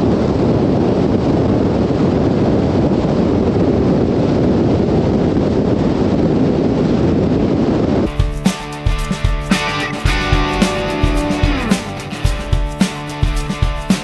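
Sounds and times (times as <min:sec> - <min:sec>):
wind battering microphone: 0:00.0 - 0:14.0.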